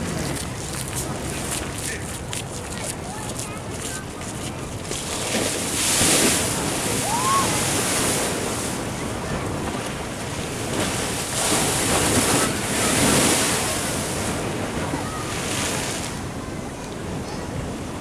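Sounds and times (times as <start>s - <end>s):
surf breaking against a sea wall: 0.0s - 18.0s.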